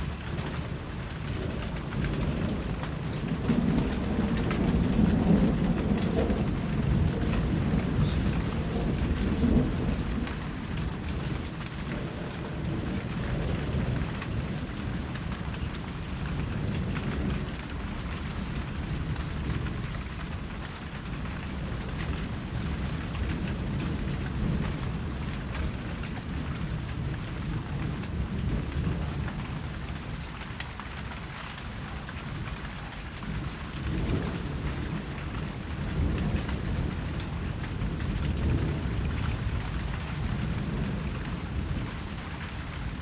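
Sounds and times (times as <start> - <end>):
low roll of thunder: 0.0 - 43.0
steady rain falling: 0.0 - 43.0.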